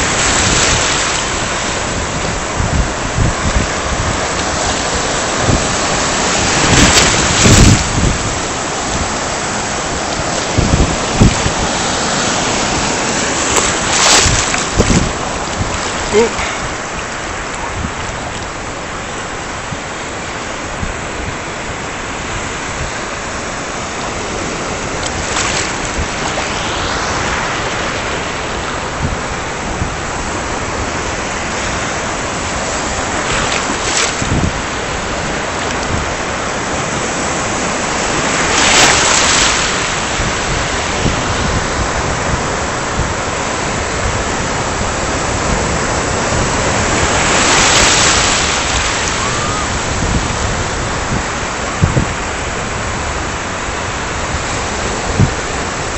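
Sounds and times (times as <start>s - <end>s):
waves breaking on shore: 0.0s - 55.9s.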